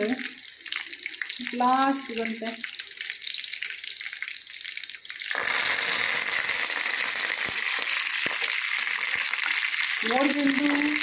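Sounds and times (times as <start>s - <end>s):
chicken sizzling in oil: 0.0s - 11.0s
leaves hissing in hot oil: 0.0s - 11.0s.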